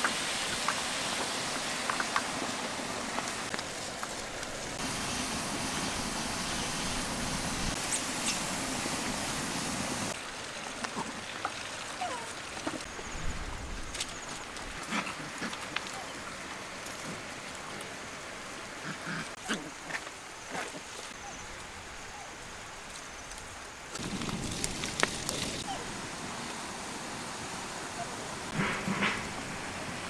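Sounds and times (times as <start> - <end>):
rustling in dry leaves: 0.0 - 18.7, 19.7 - 30.0
outdoor hiss: 0.0 - 30.0.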